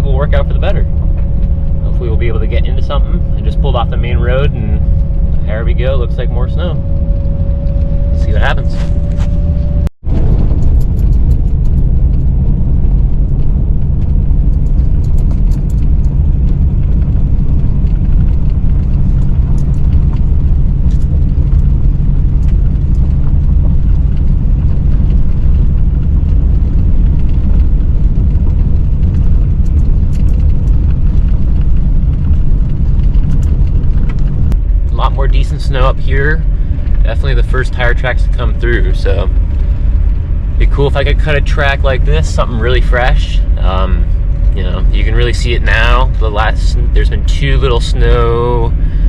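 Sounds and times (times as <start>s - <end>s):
truck engine and tyre rumble: 0.0s - 49.0s.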